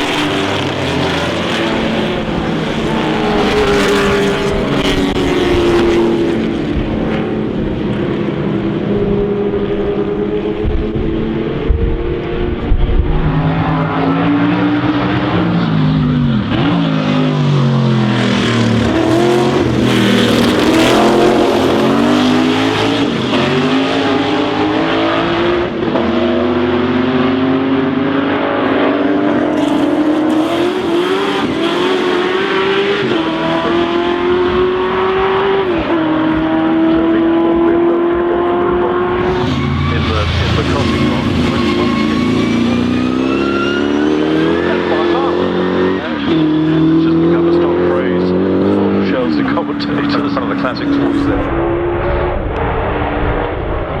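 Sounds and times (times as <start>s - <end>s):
engine shifting up gears: 0.0s - 53.8s
racing car engines passing: 0.0s - 54.0s.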